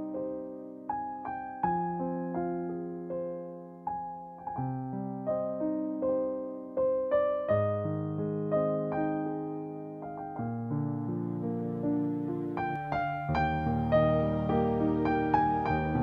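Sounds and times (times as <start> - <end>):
gentle solo piano: 0.0 - 16.0.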